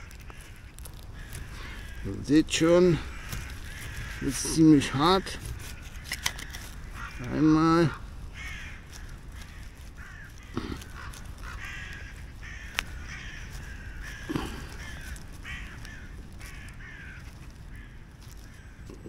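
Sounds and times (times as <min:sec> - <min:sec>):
harsh bird calls: 0:00.0 - 0:19.0.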